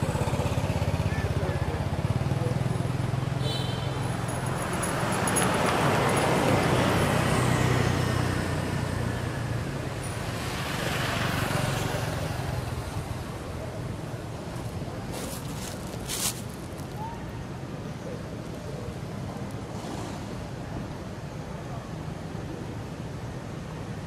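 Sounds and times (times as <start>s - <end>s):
vehicles passing on paved road: 0.0s - 24.0s.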